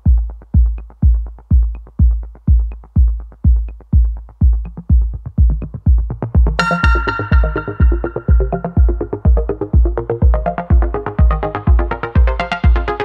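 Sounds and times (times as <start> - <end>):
heavy kick drum: 0.0 - 13.0
upbeat electronic music: 0.0 - 13.0.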